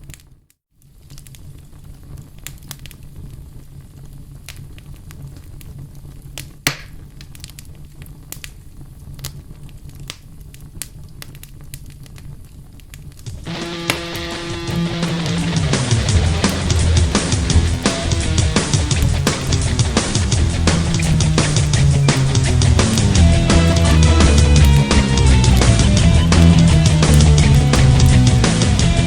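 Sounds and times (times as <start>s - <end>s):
campfire crackling and popping: 1.0s - 29.0s.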